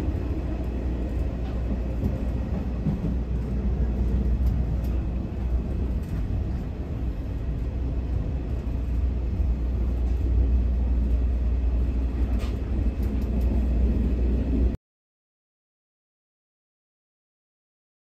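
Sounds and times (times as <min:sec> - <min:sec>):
train wheels rumbling on rails: 0:00.0 - 0:14.8.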